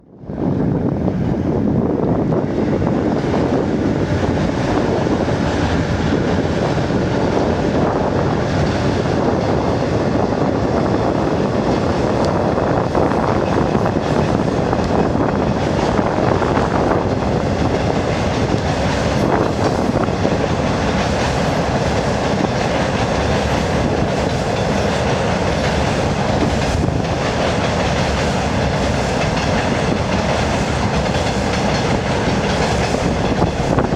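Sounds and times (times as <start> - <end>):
train wheels clicking over rail joints: 2.0 - 33.9.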